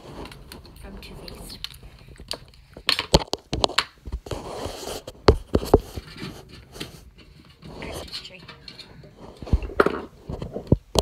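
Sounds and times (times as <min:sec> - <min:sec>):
scraping rub: 0:00.0 - 0:01.6, 0:03.6 - 0:10.8.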